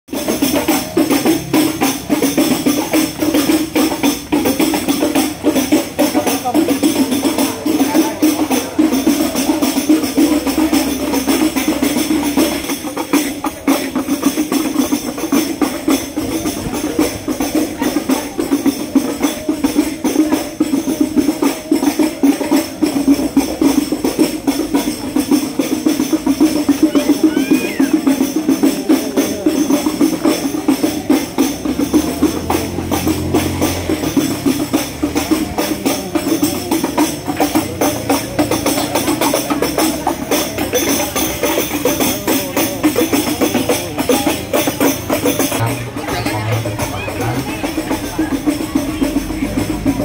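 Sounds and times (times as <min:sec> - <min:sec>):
hand percussion music: 0:00.1 - 0:50.0.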